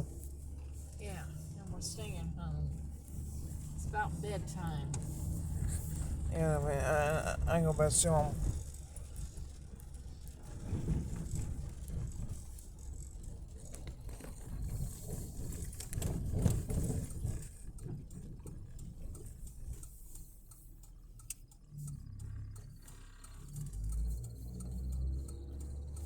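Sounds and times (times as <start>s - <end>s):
car engine and road noise: 0.0s - 26.0s
small rattles and clicks: 0.0s - 26.0s.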